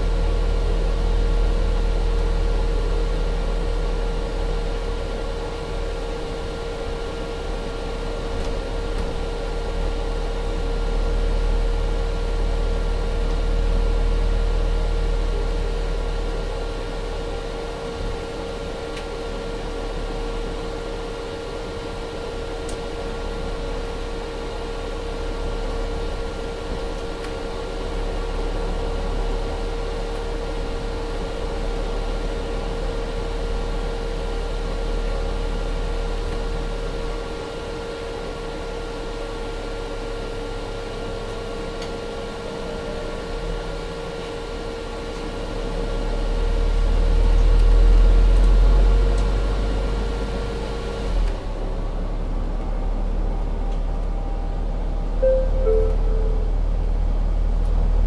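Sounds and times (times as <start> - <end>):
bus engine hum and rumble: 0.0 - 58.0.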